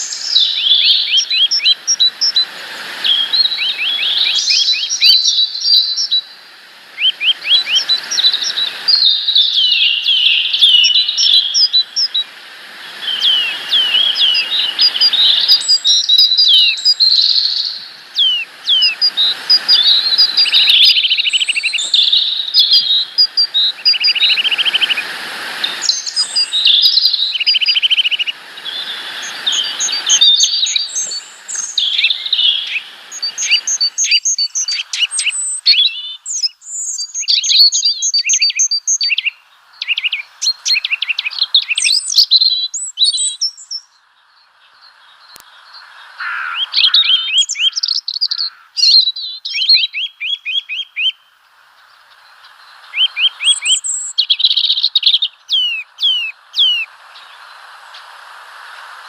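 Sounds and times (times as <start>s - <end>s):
songbirds chirping and whistling: 0.0s - 58.1s.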